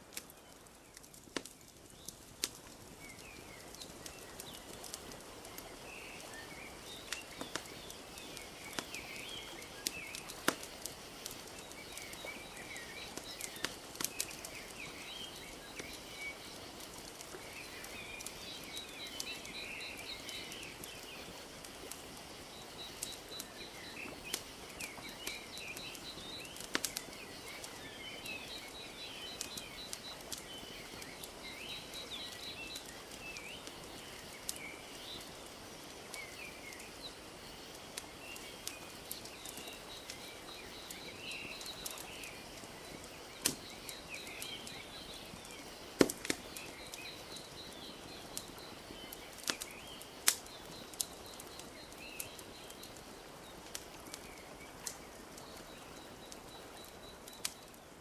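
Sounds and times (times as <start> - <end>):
wood fire crackling and popping: 0.0 - 58.0
birds chirping: 0.1 - 58.0.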